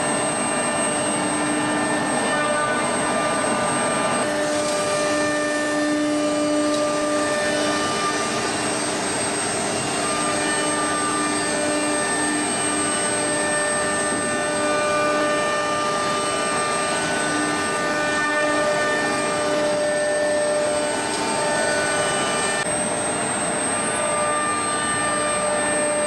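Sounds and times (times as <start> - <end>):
high spindle whine: 0.0 - 26.0.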